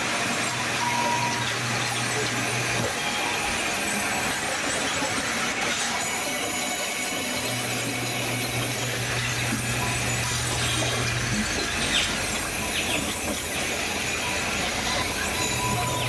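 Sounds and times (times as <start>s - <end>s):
sawmill saw cutting log: 0.0s - 16.0s.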